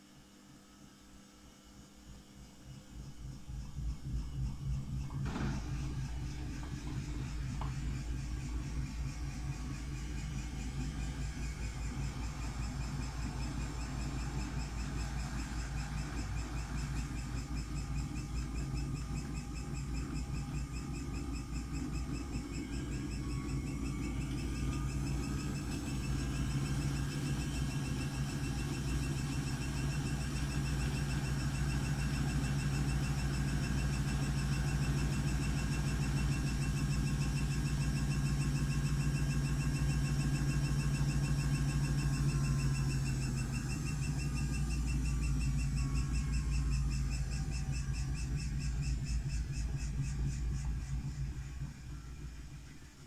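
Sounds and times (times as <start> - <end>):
high pulsing whine: 0.0 - 53.0
washing machine spinning hum: 0.0 - 53.0.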